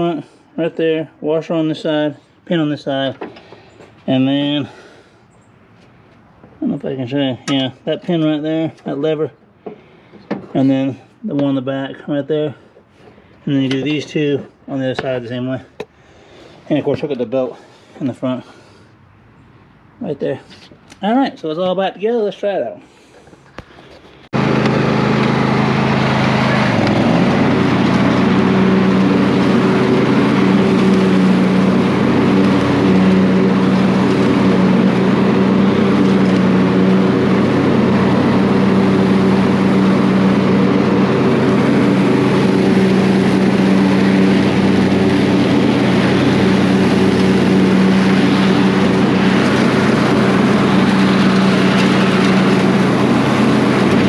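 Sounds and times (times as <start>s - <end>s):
lawnmower engine running: 0.0s - 22.0s, 22.8s - 54.0s.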